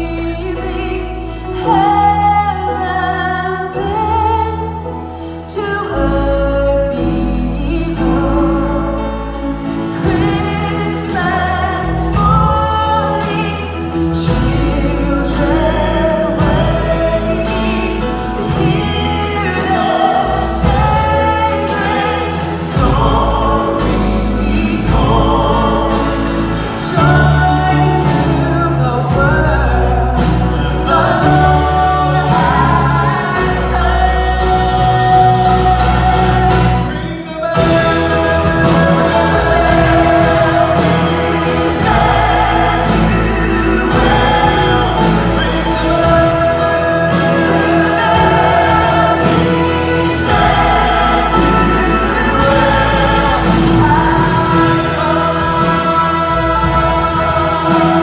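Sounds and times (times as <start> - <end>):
band with bass line: 0.0 - 58.0
woman singing: 0.0 - 58.0
choir singing: 6.7 - 58.0.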